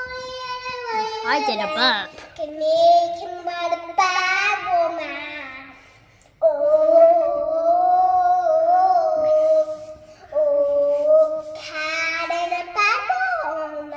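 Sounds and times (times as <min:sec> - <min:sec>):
girl singing: 0:00.0 - 0:13.9.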